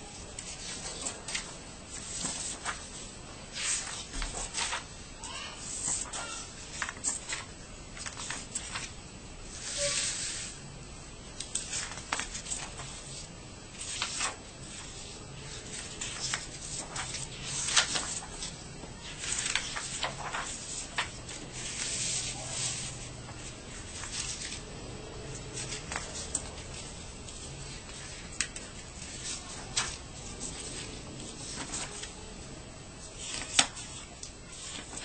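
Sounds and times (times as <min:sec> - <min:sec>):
paper sheets rustling and sliding: 0:00.1 - 0:10.5, 0:11.4 - 0:32.4, 0:33.0 - 0:35.0.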